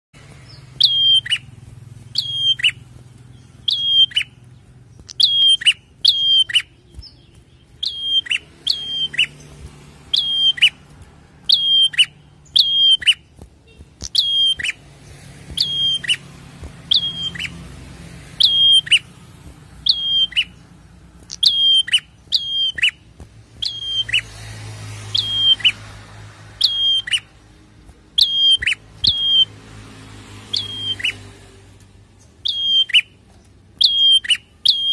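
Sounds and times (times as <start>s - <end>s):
bird sharp chirping call: 0.2s - 29.6s, 30.4s - 31.4s, 32.1s - 34.9s.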